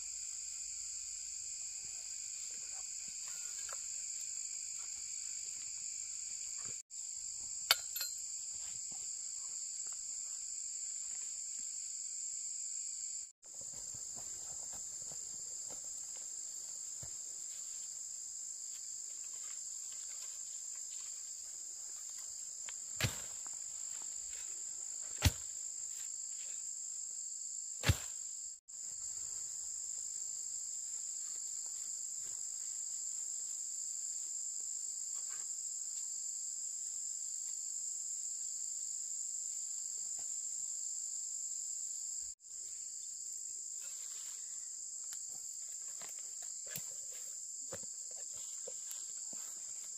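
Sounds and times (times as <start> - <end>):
high-pitched insect chorus: 0.0 - 49.9.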